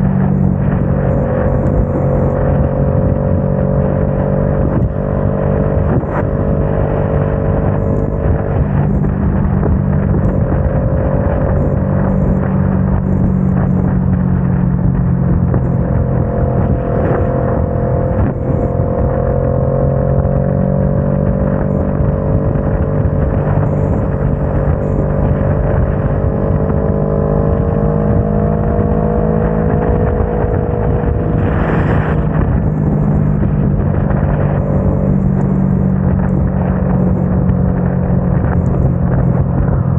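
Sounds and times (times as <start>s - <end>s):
loud whoosh: 0.0s - 39.9s
motorcycle engine cruising: 0.0s - 39.9s
wind rush on microphone: 0.0s - 39.9s.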